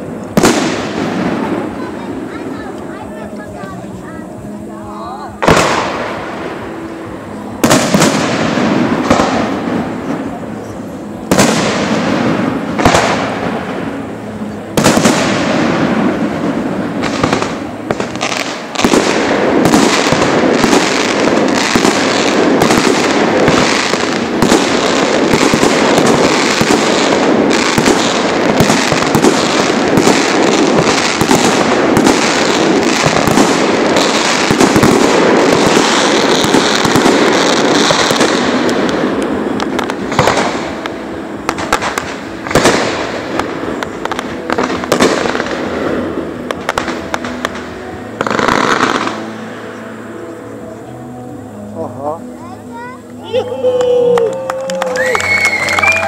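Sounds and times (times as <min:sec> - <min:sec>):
rapid firework bangs and crackling: 0:00.0 - 0:49.3.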